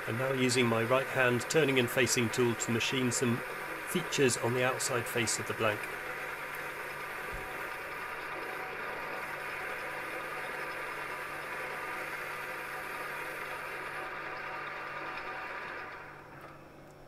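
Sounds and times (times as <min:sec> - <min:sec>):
lathe tool cutting steel: 0:00.0 - 0:16.1
lathe motor hum: 0:00.0 - 0:16.6.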